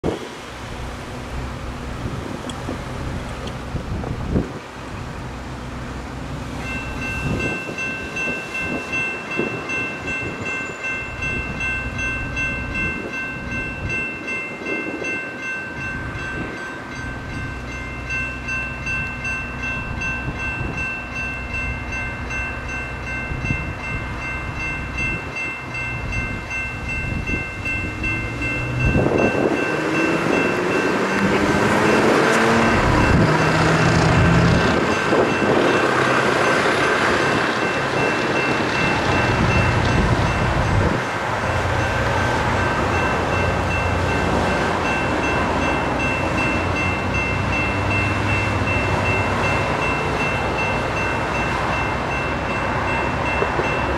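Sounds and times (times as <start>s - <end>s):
light rail train approaching: 0.0s - 53.9s
railroad crossing bells ringing: 0.2s - 53.9s.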